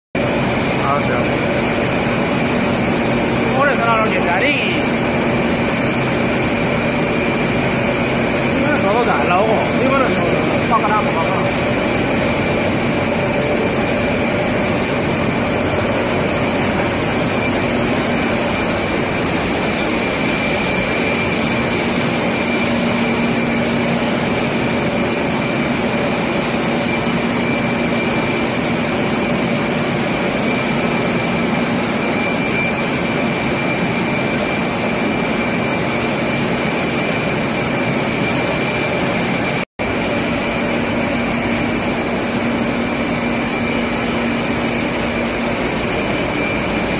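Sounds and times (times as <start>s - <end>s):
high whine: 0.2s - 46.9s
lathe mechanical hum: 0.2s - 46.9s.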